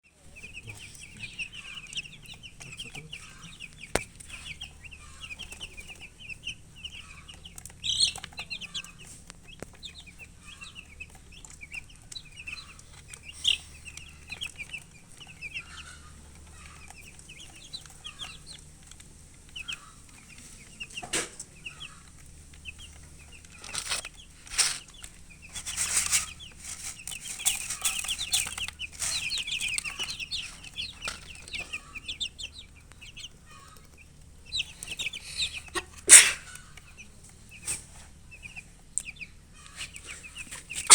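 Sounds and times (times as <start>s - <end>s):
baby chicks cheeping: 0.0s - 40.9s
rustling: 0.5s - 38.8s.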